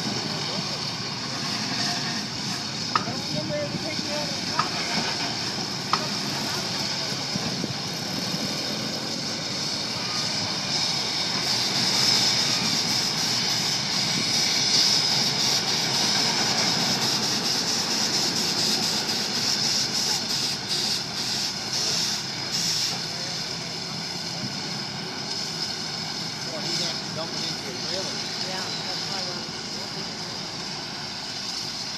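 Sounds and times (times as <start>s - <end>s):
machinery running: 0.0s - 31.9s
steam hissing: 0.0s - 31.9s.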